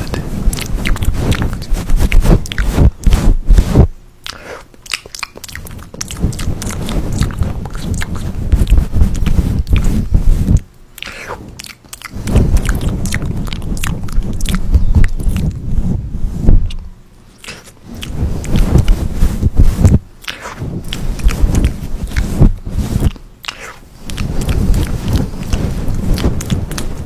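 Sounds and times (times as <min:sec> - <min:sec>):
crunchy chewing and biting: 0:00.0 - 0:15.7, 0:16.6 - 0:27.0.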